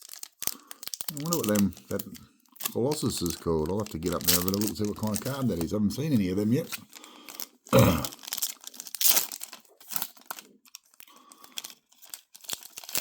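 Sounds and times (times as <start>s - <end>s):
wrapper crinkling and tearing: 0.0s - 13.0s.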